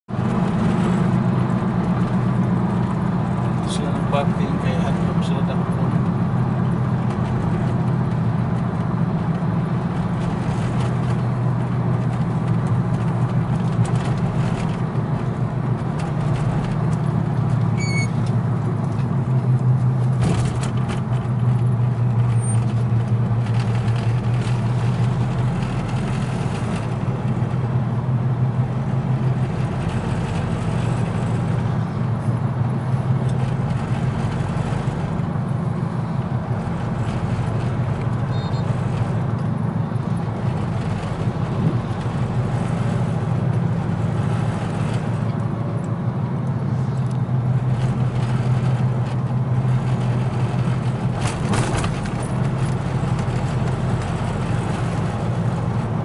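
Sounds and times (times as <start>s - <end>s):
vehicle engine hum and road noise: 0.0s - 56.0s.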